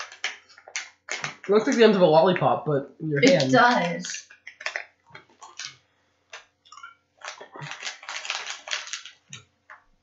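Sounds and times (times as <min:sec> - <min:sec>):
plastic candy wrapper crinkling: 0:00.0 - 0:02.0, 0:03.2 - 0:10.0.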